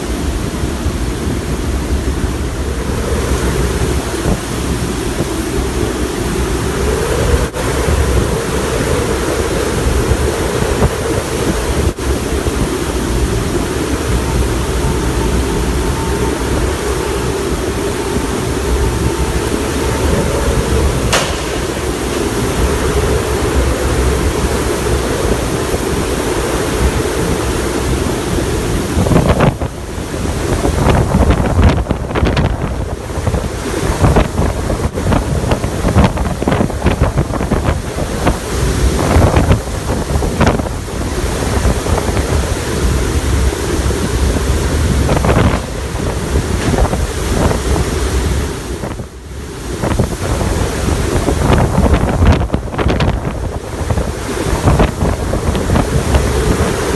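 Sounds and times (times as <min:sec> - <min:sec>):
strong wind buffeting microphone: 0:00.0 - 0:56.9.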